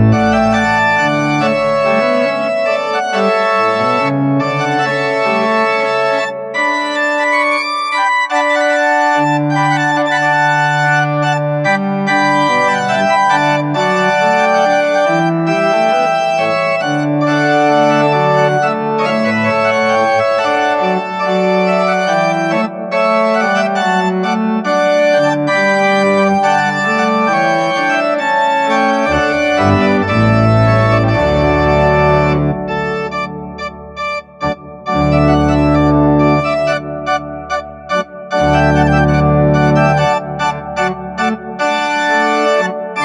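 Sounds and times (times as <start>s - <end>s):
organ music: 0.0s - 43.0s.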